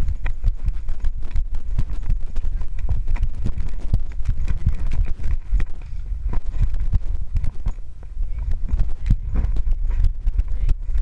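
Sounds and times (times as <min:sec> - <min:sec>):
camera knocking and jostling: 0:00.0 - 0:11.0
wind rumble on microphone: 0:00.0 - 0:11.0.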